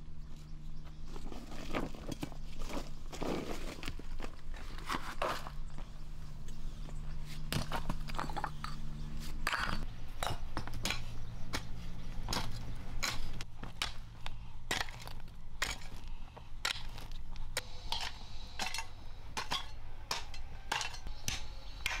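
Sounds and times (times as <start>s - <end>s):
hoe chopping and scraping soil: 0.9s - 5.6s, 6.5s - 22.0s.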